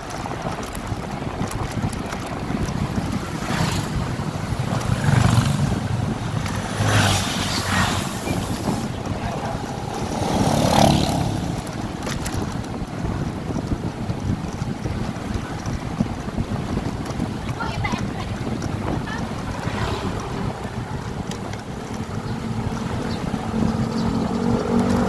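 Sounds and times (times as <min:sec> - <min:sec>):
motorcycle engine rumble: 0:00.0 - 0:25.0
wind buffeting microphone: 0:00.0 - 0:25.0.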